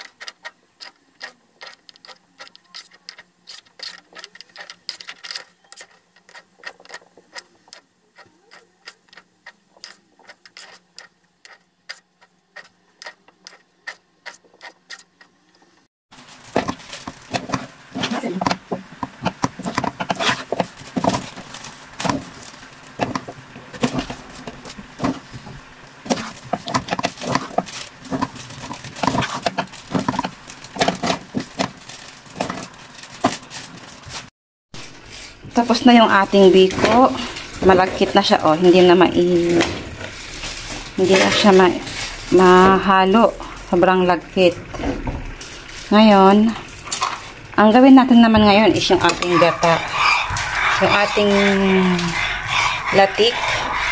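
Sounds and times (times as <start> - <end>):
metal spoon scraping a pan: 0.0 - 15.4, 16.6 - 31.7, 34.8 - 43.5, 48.2 - 53.9.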